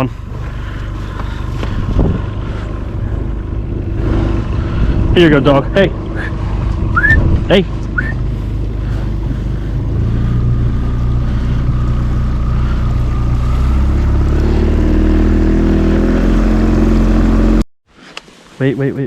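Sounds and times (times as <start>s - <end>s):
outboard motor running: 0.0s - 17.6s.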